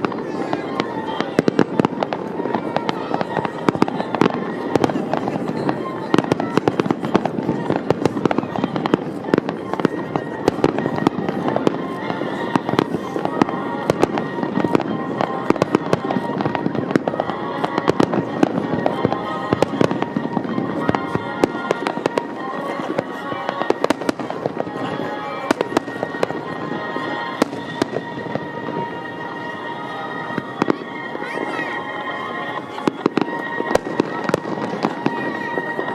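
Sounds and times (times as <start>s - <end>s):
fireworks bangs and crackles: 0.0s - 35.9s
music playing: 0.0s - 35.9s.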